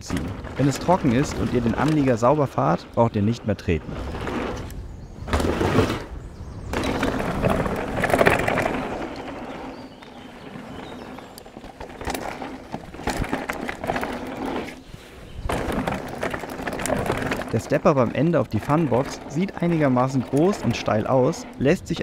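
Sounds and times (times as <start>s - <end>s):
bike knocking over bumps: 0.0s - 2.8s, 5.2s - 14.8s, 15.4s - 21.4s
bike tyres rolling on dirt: 0.0s - 22.0s.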